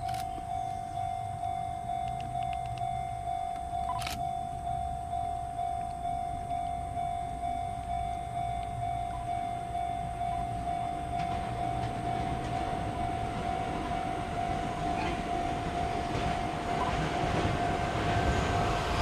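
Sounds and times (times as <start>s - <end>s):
electric train rumble: 0.0s - 19.0s
pulsing high tone: 0.0s - 19.0s.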